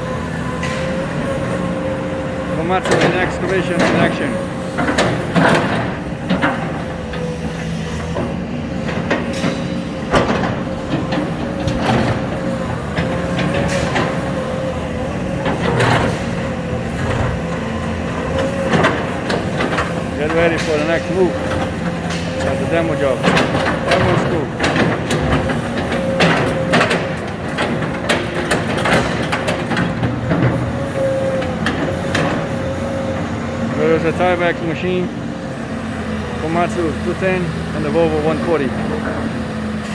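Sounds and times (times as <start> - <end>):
excavator diesel engine running: 0.0 - 39.9
hydraulic whine: 0.0 - 39.9
knocks and bangs of debris: 2.6 - 35.0.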